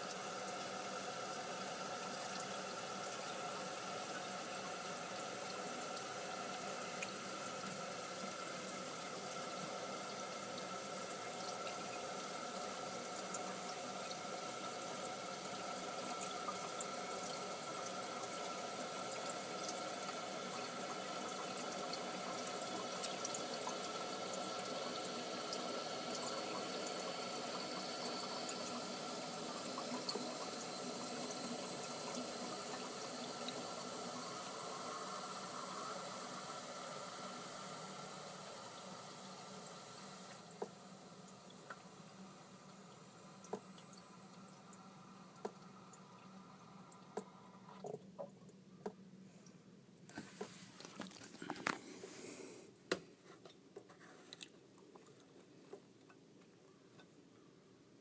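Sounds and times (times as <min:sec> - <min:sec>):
water hissing from leaking pipe: 0:00.0 - 0:47.9.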